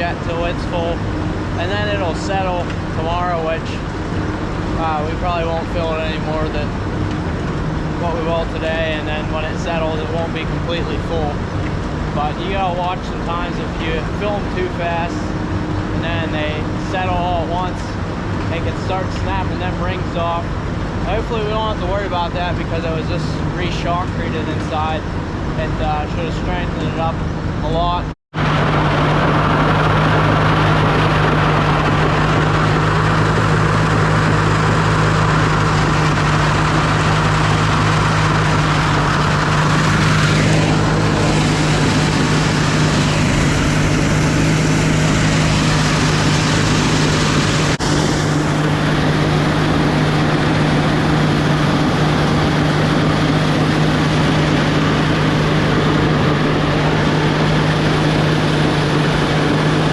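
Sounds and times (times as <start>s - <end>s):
farm machinery engine hum: 0.0s - 59.9s.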